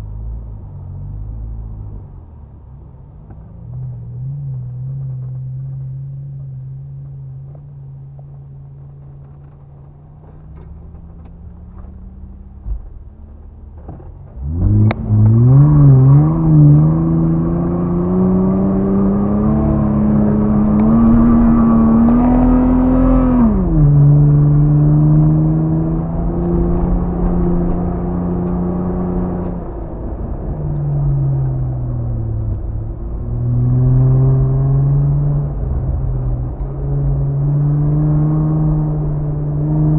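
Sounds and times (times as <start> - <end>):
off-road vehicle engine: 0.0 - 39.9.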